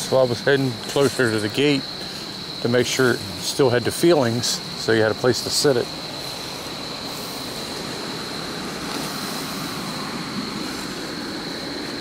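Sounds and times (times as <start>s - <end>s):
crickets trilling: 0.0s - 12.0s
steady rushing noise: 0.0s - 12.0s.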